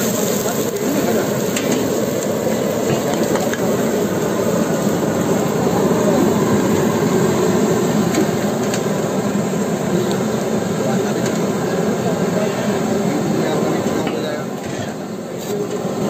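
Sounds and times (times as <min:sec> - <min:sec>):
low street rumble: 0:00.0 - 0:16.0
people's voices: 0:00.0 - 0:16.0.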